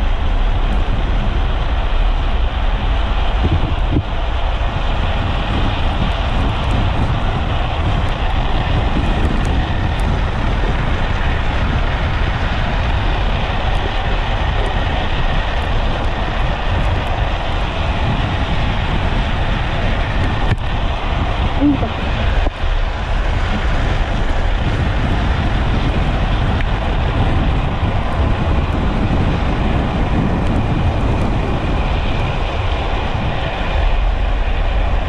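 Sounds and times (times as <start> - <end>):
wheels rolling on asphalt: 0.0 - 35.0
wind rush on microphone: 0.0 - 35.0.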